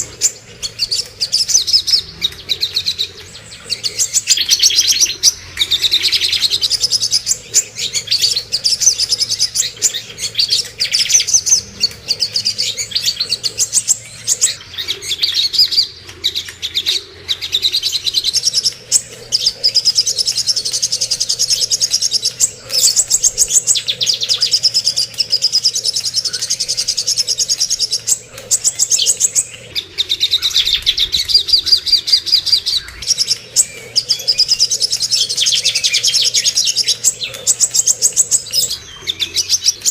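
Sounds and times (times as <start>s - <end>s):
songbird chattering and trilling: 0.0s - 39.9s.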